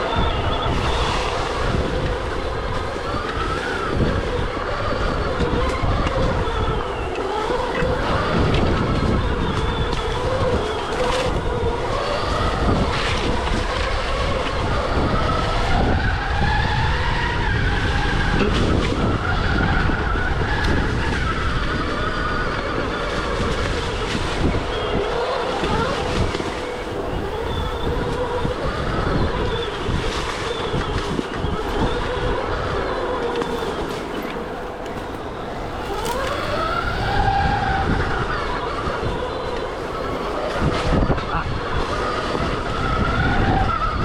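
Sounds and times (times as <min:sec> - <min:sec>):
electric motor whine: 0:00.0 - 0:44.0.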